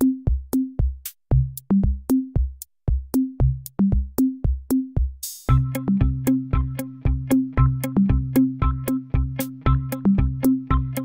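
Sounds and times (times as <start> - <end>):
electronic music with drum-machine beat: 0.0 - 11.0.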